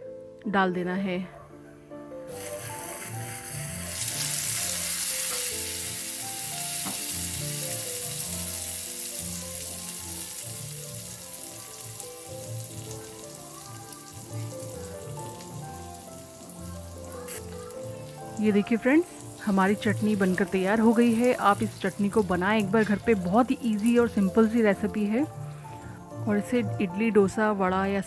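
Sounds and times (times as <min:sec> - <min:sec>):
background music: 0:00.0 - 0:28.0
hot oil sizzling: 0:02.3 - 0:26.3.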